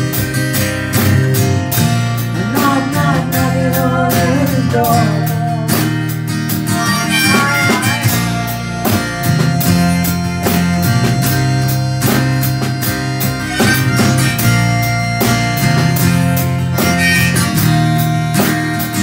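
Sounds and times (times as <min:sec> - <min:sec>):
acoustic guitar strumming: 0:00.0 - 0:19.0
drum kit beat: 0:00.0 - 0:19.0
electric bass: 0:00.0 - 0:19.0
wavering lead melody: 0:00.0 - 0:19.0.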